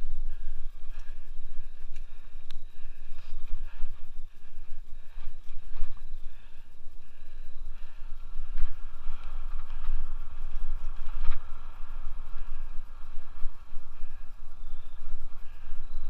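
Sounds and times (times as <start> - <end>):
mountain bike riding on dirt: 0.0 - 16.0
wind buffeting microphone: 0.0 - 16.0.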